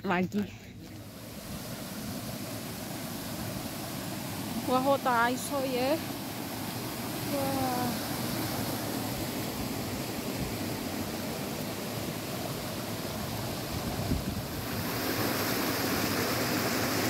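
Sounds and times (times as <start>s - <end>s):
stream rushing over rocks: 0.8s - 17.0s.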